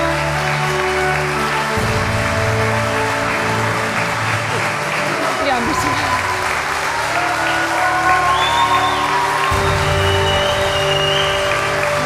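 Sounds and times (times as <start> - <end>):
audience applause: 0.0 - 12.0.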